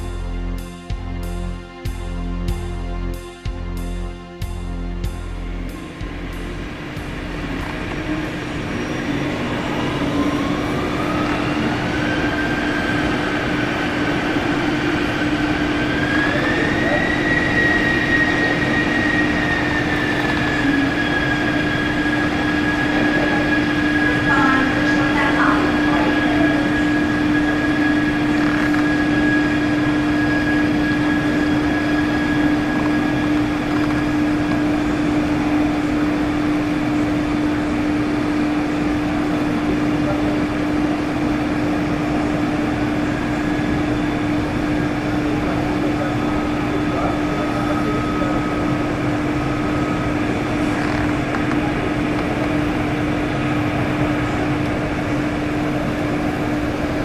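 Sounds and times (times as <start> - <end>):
jet engines droning: 0.0 - 57.0
faint high whine: 5.7 - 57.0.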